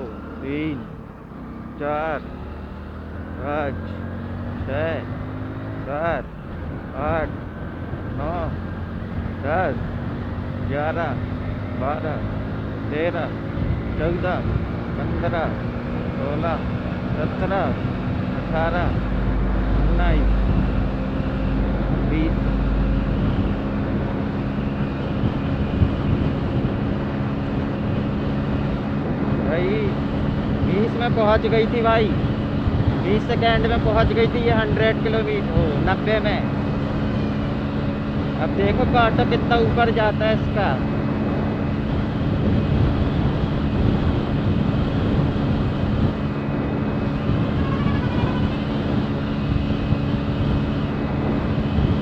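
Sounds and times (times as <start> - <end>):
motorcycle engine at high revs: 0.0 - 52.0
wind rushing over microphone: 2.9 - 52.0.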